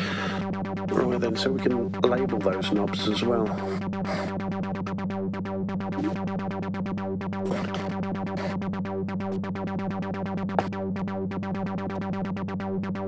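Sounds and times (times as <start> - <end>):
steady low synth tone: 0.0 - 13.0.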